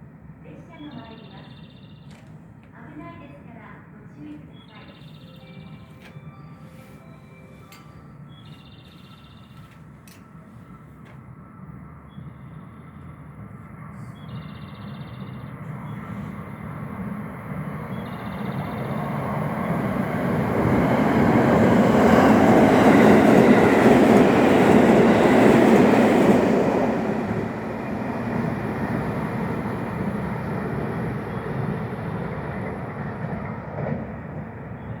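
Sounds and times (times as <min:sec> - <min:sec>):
electric train passing: 0:04.0 - 0:35.0.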